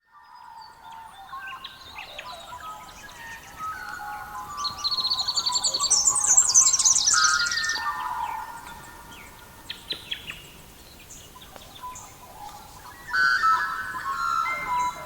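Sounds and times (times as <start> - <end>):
songbirds trilling and chirping: 0.1 - 15.0.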